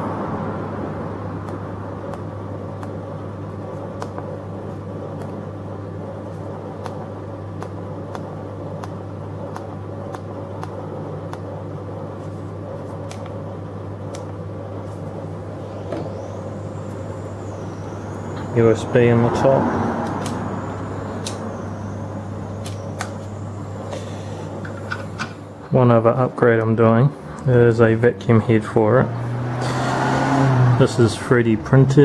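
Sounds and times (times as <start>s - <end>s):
electrical hum of router: 0.0s - 32.0s
spindle whine: 0.0s - 32.0s.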